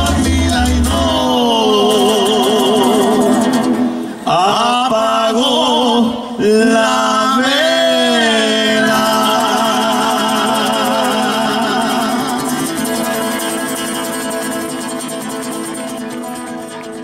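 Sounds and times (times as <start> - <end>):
man singing with vibrato: 0.0 - 16.3
acoustic guitar: 0.0 - 17.0.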